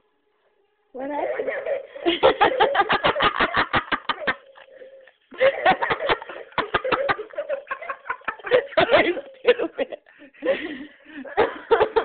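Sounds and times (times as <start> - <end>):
person giggling: 2.1 - 12.0.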